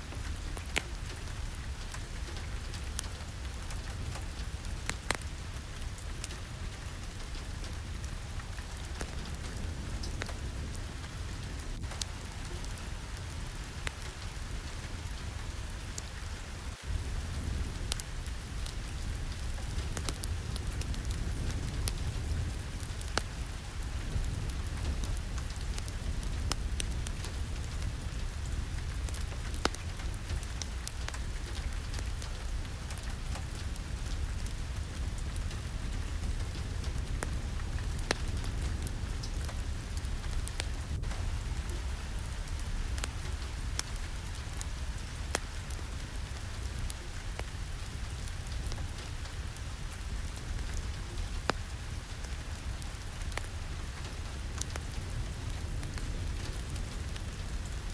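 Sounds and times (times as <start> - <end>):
sharp ticks of raindrops: 0.0 - 57.9
steady rain falling: 0.0 - 57.9.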